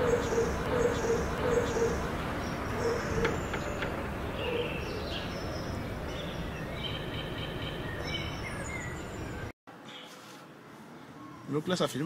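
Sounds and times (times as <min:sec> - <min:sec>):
small birds chirping: 0:00.0 - 0:10.2
outdoor background rush: 0:00.0 - 0:12.0.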